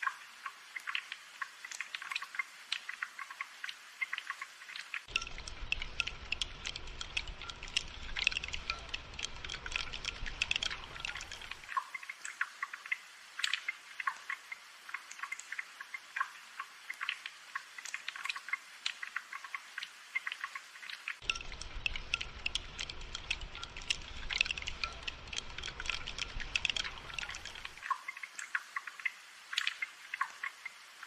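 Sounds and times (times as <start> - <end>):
rain pattering: 0.0 - 31.0.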